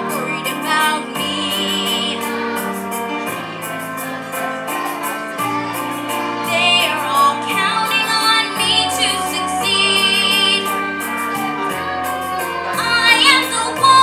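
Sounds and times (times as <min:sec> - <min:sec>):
girl singing a ballad: 0:00.0 - 0:03.4, 0:04.5 - 0:11.9, 0:12.8 - 0:14.0
instrumental held chords: 0:00.0 - 0:14.0.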